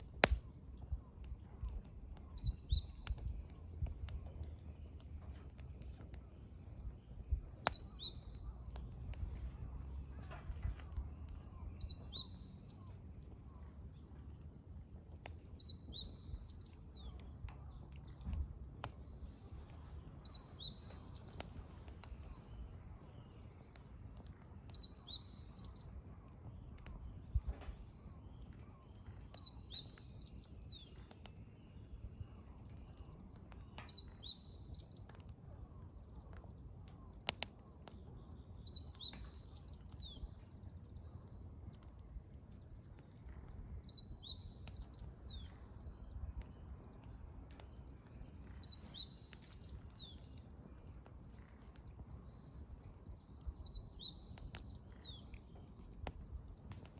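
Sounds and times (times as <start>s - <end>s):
campfire crackling and popping: 0.0s - 56.9s
songbird singing: 0.0s - 56.9s.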